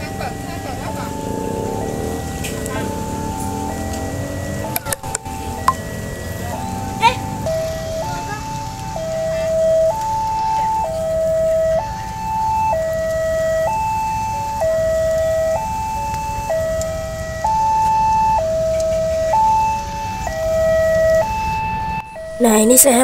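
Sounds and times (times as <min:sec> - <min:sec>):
two-tone warning siren wailing: 0:00.0 - 0:23.0.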